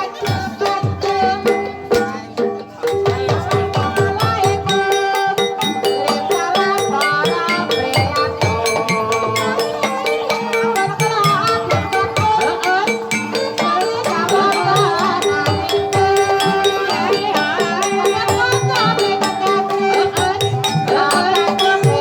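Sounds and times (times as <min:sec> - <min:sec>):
fast hand drum strokes: 0:00.0 - 0:22.0
ringing metallophone tones: 0:00.0 - 0:22.0.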